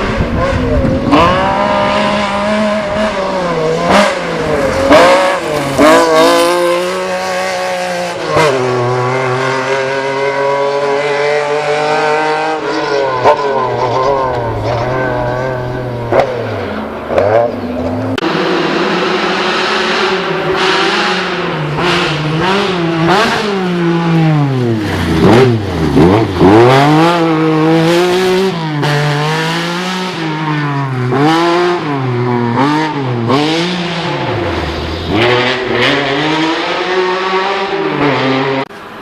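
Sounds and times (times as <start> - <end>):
car engine revving hard: 0.0 - 38.7.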